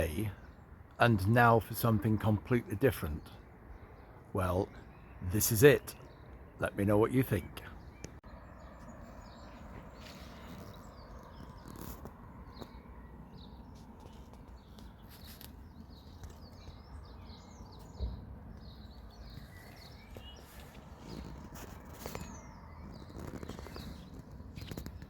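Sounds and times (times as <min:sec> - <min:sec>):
garden birds chirping: 0:00.0 - 0:25.0.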